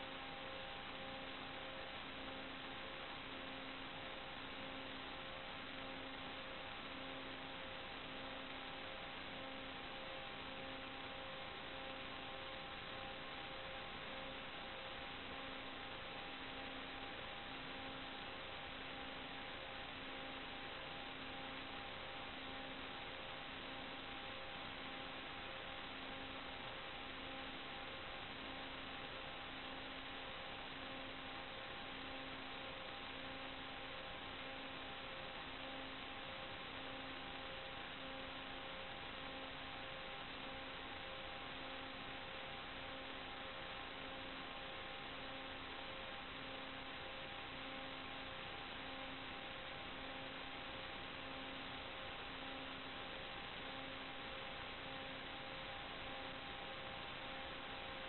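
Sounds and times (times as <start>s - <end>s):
constant hum tones: 0.0s - 58.0s
electronic hiss: 0.0s - 58.0s.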